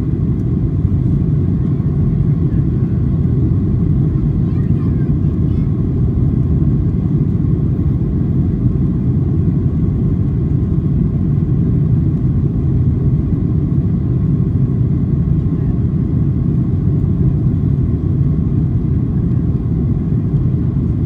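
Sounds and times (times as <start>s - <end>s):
jet engines and airflow rumble: 0.0s - 21.0s.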